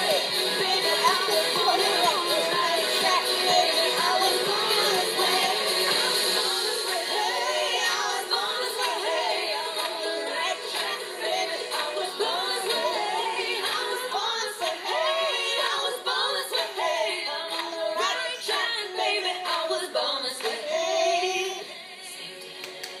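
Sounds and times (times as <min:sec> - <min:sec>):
girl singing pop song: 0:00.0 - 0:23.0.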